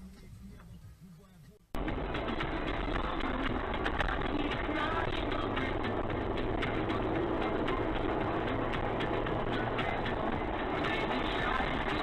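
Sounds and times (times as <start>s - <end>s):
vehicle road and engine noise: 0.0s - 12.0s.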